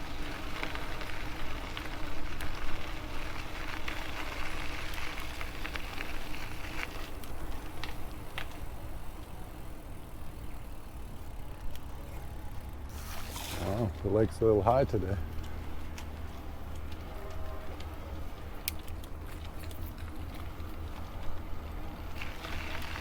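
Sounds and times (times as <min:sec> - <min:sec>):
tyres rolling on trail: 0:00.0 - 0:23.0.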